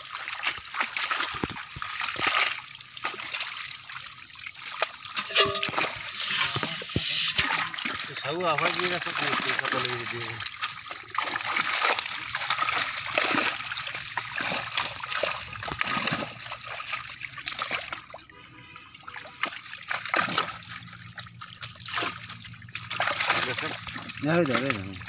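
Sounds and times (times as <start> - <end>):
fish thrashing and splashing water: 0.0 - 25.0.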